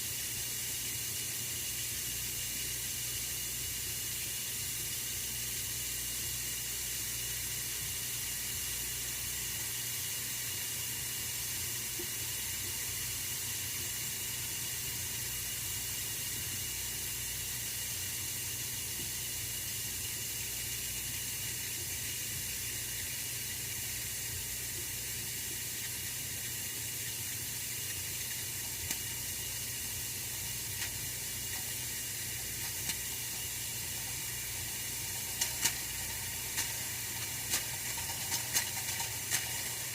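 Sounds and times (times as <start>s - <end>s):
radiator heater hiss: 0.0s - 39.9s.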